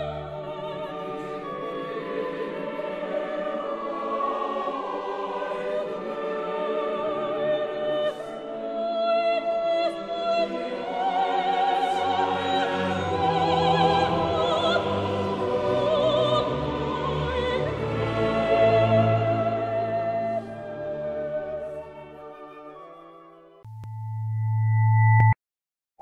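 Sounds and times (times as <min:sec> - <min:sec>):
operatic singing: 0:00.0 - 0:22.9.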